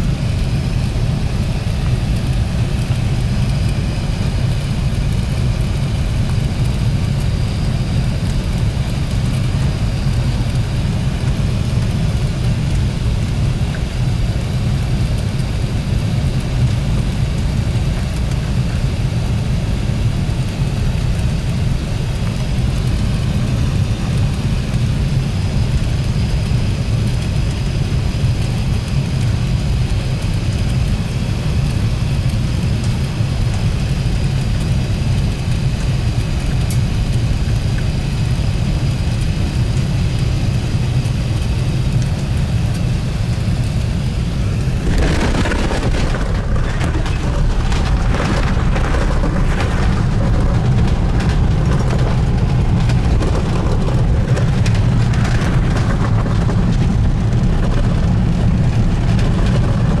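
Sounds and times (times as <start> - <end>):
airplane cabin low rumble: 0.0 - 60.0
airplane touching down: 0.0 - 60.0
rushing rumble of runway rollout: 0.0 - 60.0.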